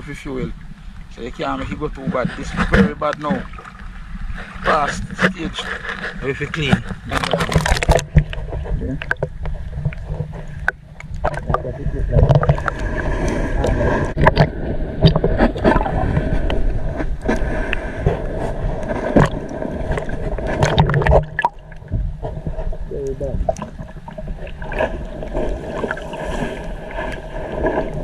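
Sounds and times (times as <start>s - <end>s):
muffled underwater sloshing: 0.0s - 28.0s.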